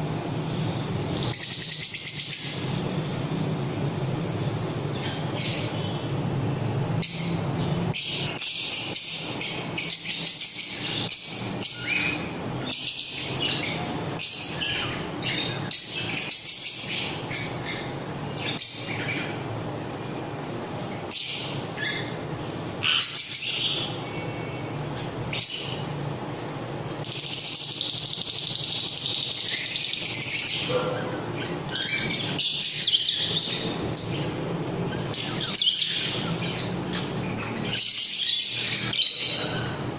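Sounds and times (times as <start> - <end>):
parrots chirping and chattering: 0.5 - 39.9.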